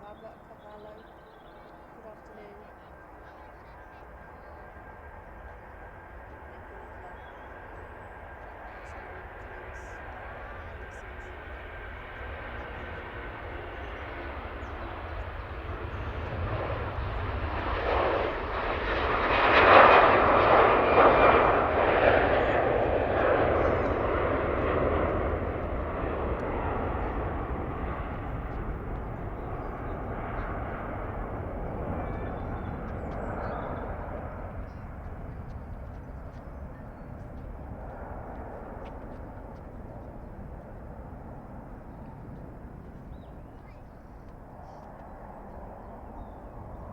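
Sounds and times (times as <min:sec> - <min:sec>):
jet airliner engines passing: 0:00.0 - 0:46.9.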